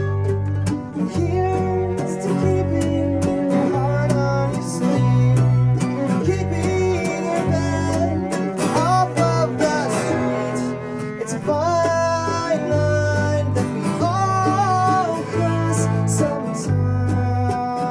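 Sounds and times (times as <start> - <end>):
bowed violin sliding: 0.0 - 17.9
low cello notes: 0.0 - 17.9
strummed acoustic guitar: 0.0 - 17.9.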